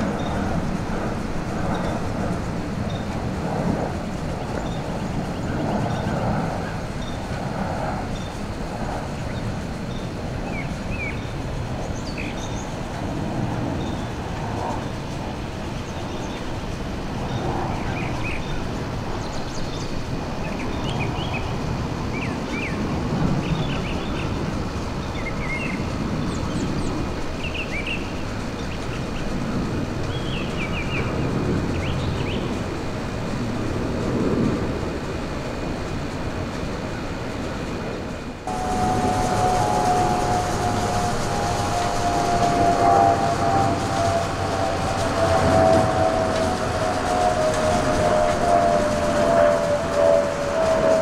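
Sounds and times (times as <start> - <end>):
jet engines rumbling overhead: 0.0 - 51.0.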